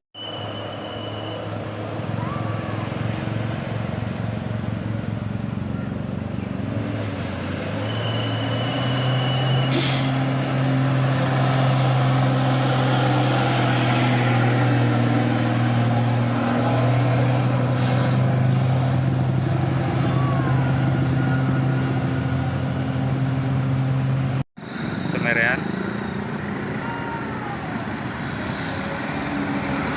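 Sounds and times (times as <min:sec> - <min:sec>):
bus diesel engine droning: 0:00.2 - 0:29.9.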